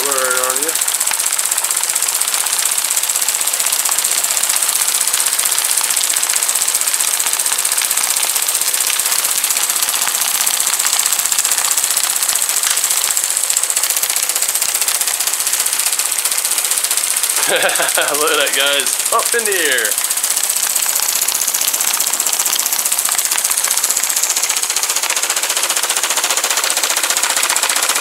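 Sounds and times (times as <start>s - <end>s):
toy excavator hammer chattering: 0.0s - 28.0s.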